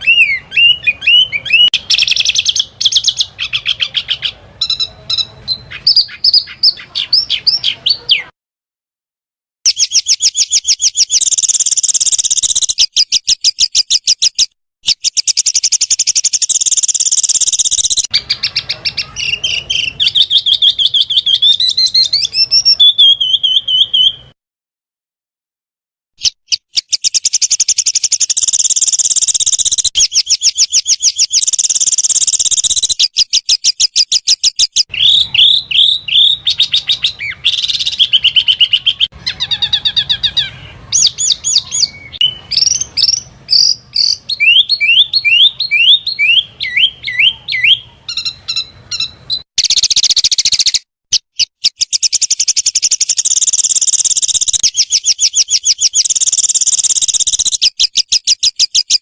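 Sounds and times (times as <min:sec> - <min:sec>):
songbirds singing rapid trills: 0:00.0 - 0:08.3, 0:09.7 - 0:24.4, 0:26.2 - 0:59.0.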